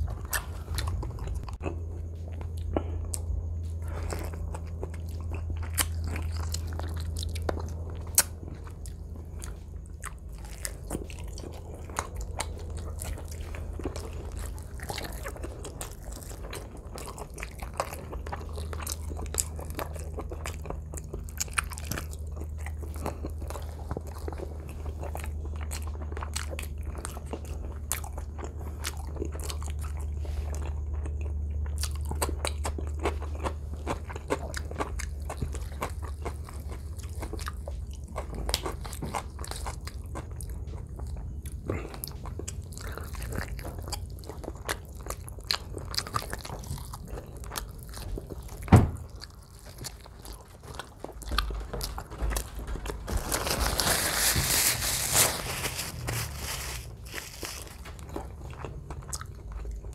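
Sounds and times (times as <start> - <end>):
chewing chicken: 0.0 - 59.9
low steady hum: 0.0 - 59.9.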